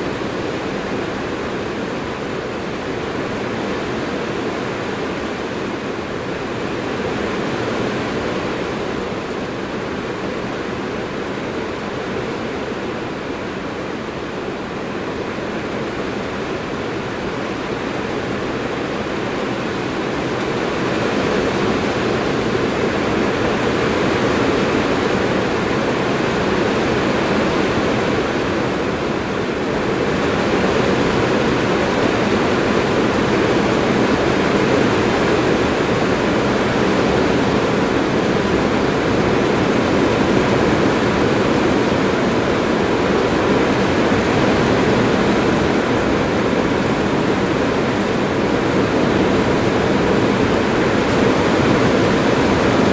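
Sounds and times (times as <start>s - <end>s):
rain on a metal roof: 0.0s - 52.9s.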